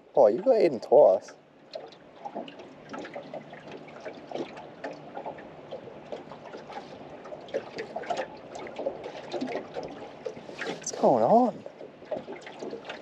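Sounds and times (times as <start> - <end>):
waves lapping against metal hull: 0.0 - 13.0
short little splashes: 0.3 - 13.0.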